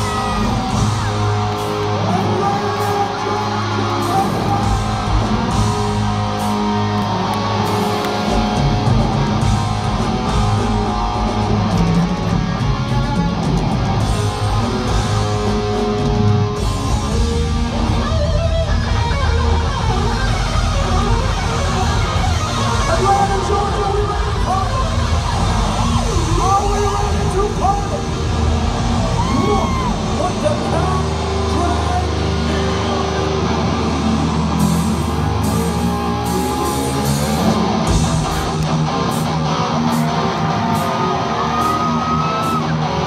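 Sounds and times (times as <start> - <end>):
electric guitar: 0.0 - 43.0
rock band playing live: 0.0 - 43.0.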